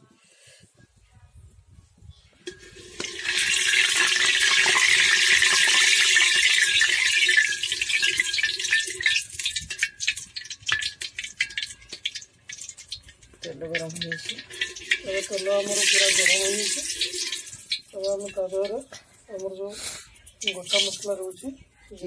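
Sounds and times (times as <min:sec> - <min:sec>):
hot oil sizzling and crackling: 0:02.5 - 0:22.0.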